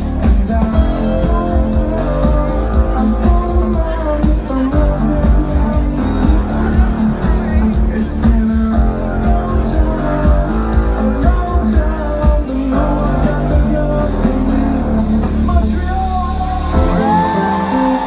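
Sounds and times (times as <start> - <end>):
electronic dance band playing live: 0.0 - 18.0
person singing: 0.0 - 18.0
pulsing bass line: 0.0 - 18.0.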